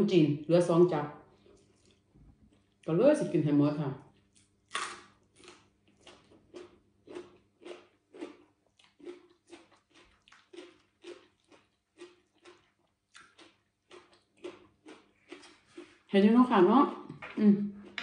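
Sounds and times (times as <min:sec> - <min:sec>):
person chewing vegetables: 0:01.4 - 0:02.9, 0:04.0 - 0:16.2, 0:16.8 - 0:18.0.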